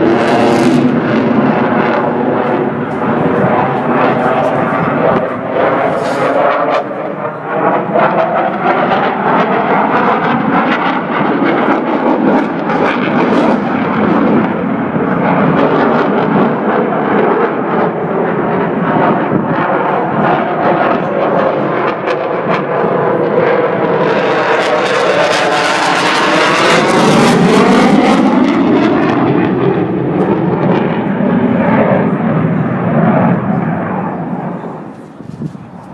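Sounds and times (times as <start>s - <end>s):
aircraft engines flying over: 0.0s - 35.9s.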